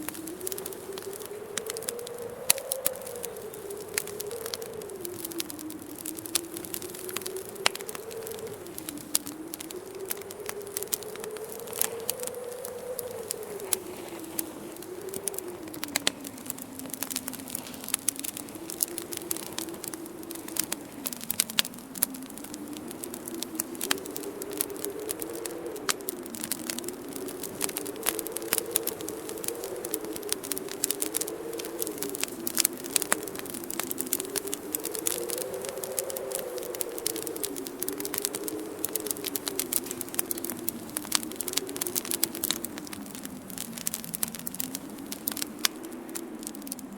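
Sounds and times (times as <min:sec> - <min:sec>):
low howling wind: 0:00.0 - 0:46.9
sharp snaps and pops: 0:00.0 - 0:46.9
wood fire crackling: 0:00.0 - 0:46.9.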